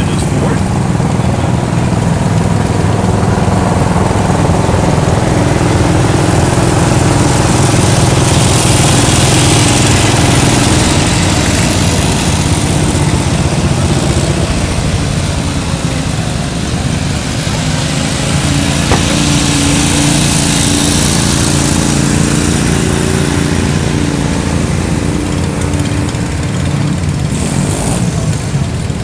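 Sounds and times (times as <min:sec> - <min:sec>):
small tractor engine idling: 0:00.0 - 0:29.0.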